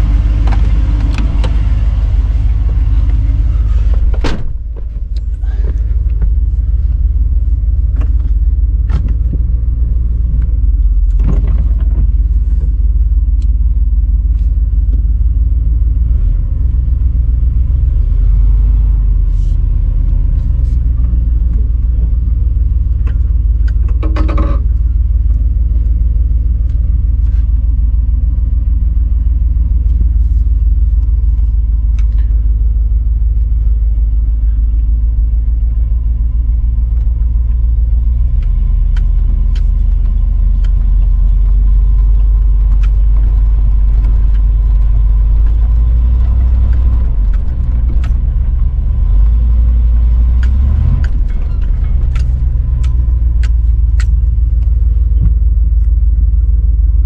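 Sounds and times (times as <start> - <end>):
truck engine rumbling: 0.0 - 57.0.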